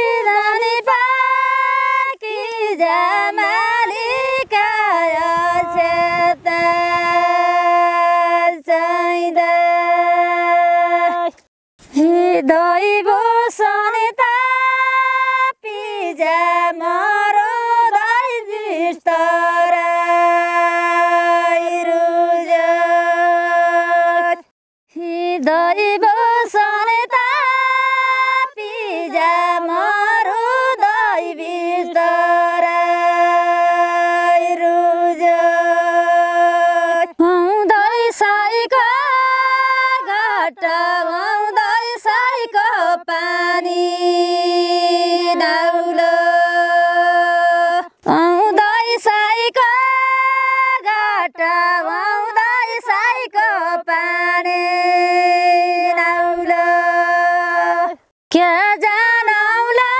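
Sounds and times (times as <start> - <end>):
woman singing unaccompanied folk song: 0.0 - 59.9.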